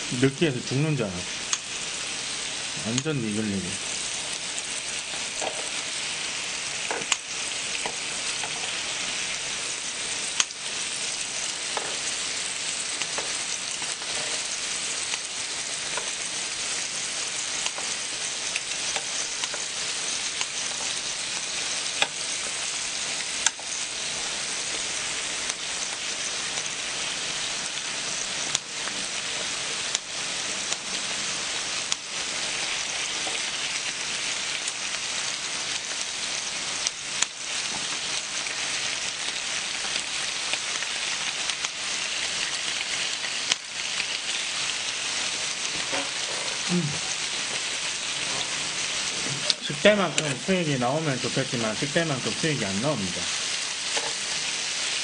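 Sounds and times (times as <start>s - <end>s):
meat sizzling on griddle: 0.0s - 55.0s.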